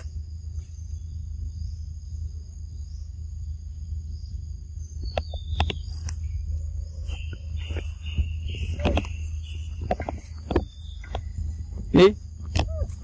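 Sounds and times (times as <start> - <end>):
high insect drone: 0.0 - 13.0
low rumble: 0.0 - 13.0.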